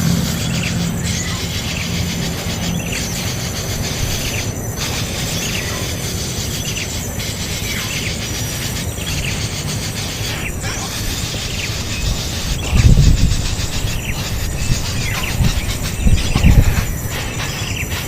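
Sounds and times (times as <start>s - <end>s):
bird chirping: 0.0s - 18.0s
rumbling background noise: 0.0s - 18.0s.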